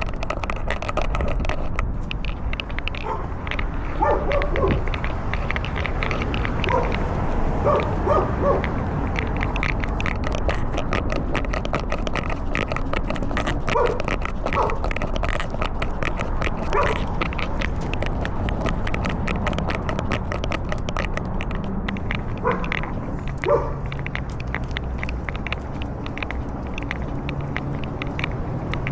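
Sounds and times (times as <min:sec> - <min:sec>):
rapid clicking: 0:00.0 - 0:28.9
rubbing on microphone: 0:00.0 - 0:28.9.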